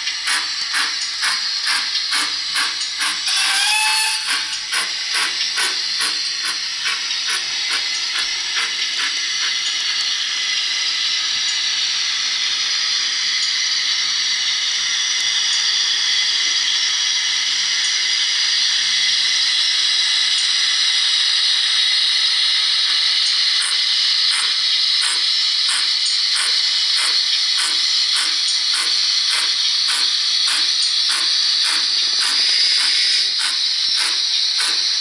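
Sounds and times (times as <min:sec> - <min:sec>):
steam locomotive hiss from speaker: 0:00.0 - 0:35.0.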